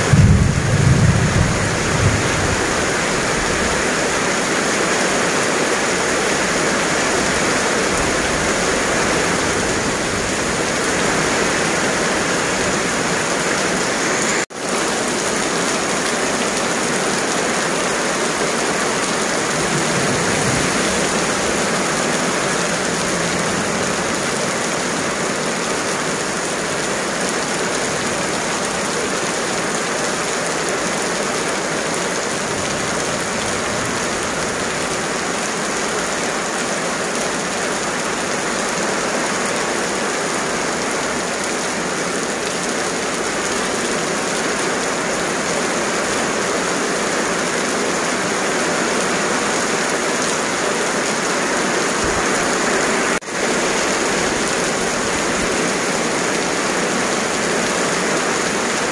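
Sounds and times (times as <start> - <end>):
heavy rain on road: 0.0 - 58.9.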